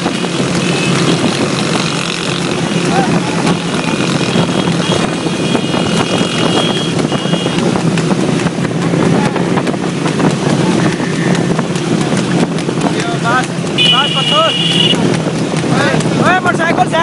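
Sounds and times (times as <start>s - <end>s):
motorcycle engines running: 0.0s - 17.0s
wind buffeting microphone: 0.0s - 17.0s.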